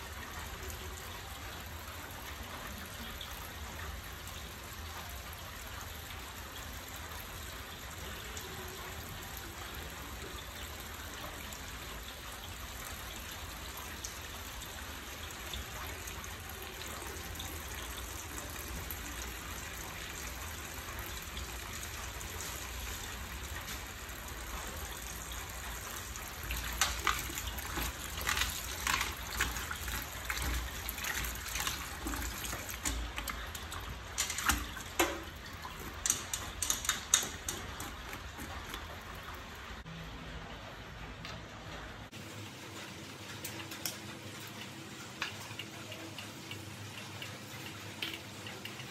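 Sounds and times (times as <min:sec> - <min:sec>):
tap water running into sink: 0:00.0 - 0:39.8.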